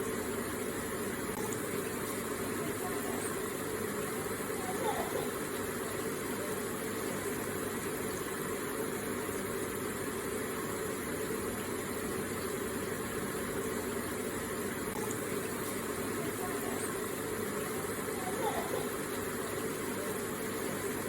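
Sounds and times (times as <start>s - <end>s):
water feature trickling and splashing: 0.0s - 21.0s.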